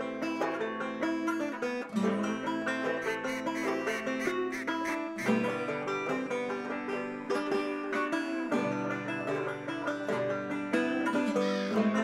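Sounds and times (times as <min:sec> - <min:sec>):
upbeat banjo and guitar music: 0:00.0 - 0:12.0.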